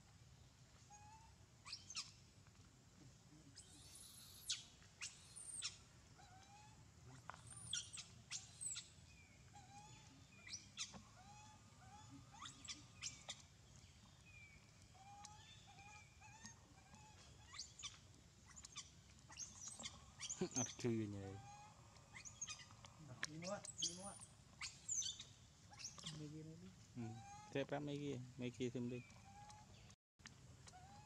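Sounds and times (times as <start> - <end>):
animal chirps and squeaks: 0.9 - 2.2, 3.5 - 26.4, 27.0 - 30.0.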